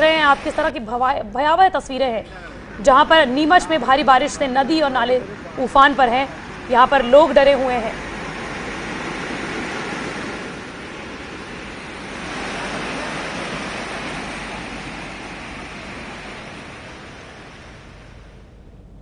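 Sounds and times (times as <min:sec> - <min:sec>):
floodwater rushing in a river: 0:02.6 - 0:18.5.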